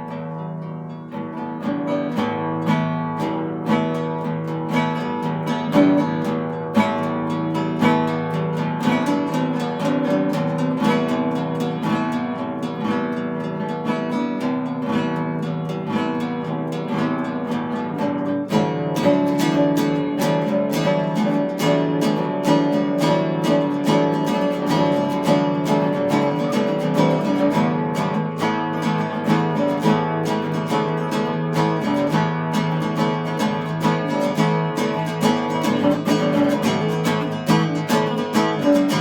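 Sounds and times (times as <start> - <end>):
acoustic guitar music: 0.0 - 39.0.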